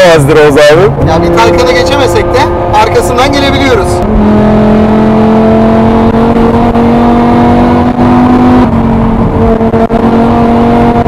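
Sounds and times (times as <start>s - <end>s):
car engine pulling hard: 0.0s - 11.0s.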